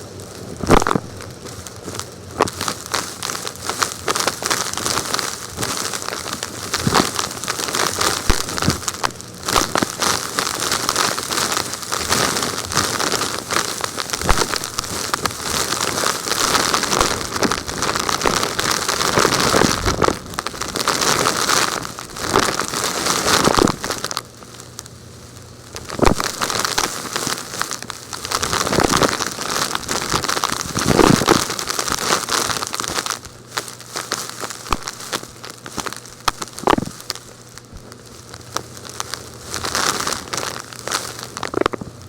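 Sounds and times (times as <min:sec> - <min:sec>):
gritty material crackling and crunching: 0:00.0 - 0:42.0.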